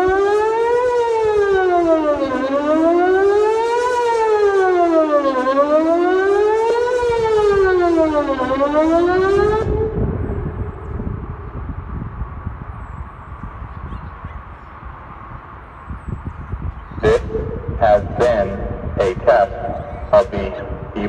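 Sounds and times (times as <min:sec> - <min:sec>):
warning siren wailing: 0:00.0 - 0:21.0.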